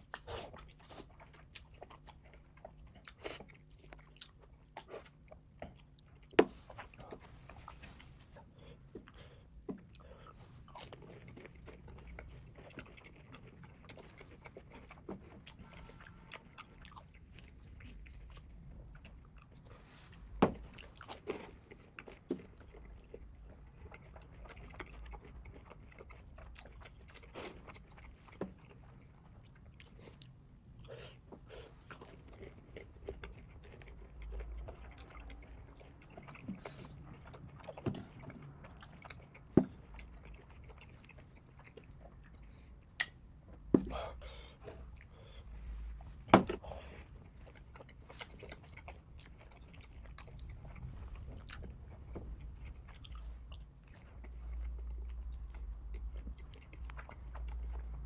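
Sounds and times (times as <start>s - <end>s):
person chewing with smacking: 0.0s - 58.0s.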